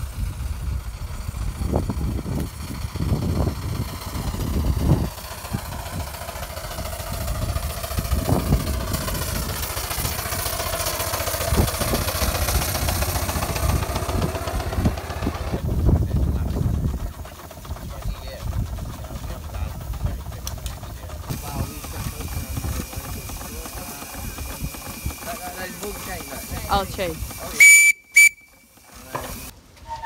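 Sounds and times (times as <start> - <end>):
engine knocks: 0.0 - 29.5
steam traction engine running: 0.0 - 29.9.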